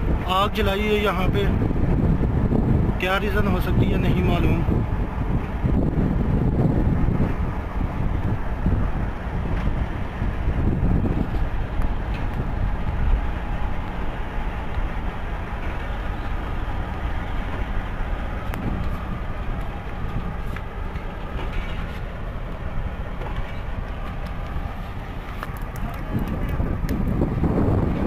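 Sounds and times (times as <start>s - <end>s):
train wheels rumbling: 0.0s - 28.0s.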